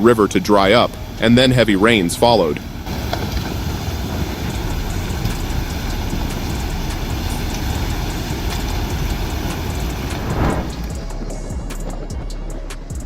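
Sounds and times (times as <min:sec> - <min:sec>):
flood water rumbling: 0:00.0 - 0:11.1.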